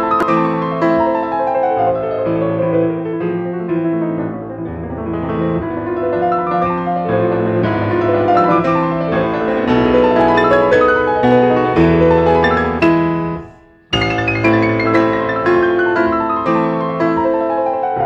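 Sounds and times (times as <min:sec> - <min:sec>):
solo classical piano: 0:00.0 - 0:18.0.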